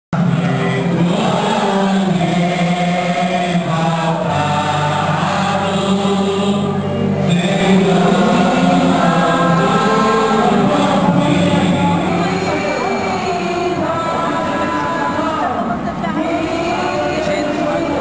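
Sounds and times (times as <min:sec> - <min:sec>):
voices singing a chant: 0:00.2 - 0:18.0.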